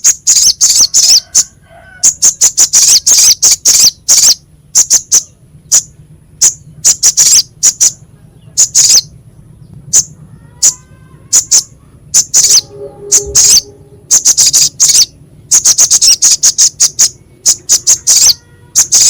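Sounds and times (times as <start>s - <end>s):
bird chipping calls: 0.0s - 19.0s.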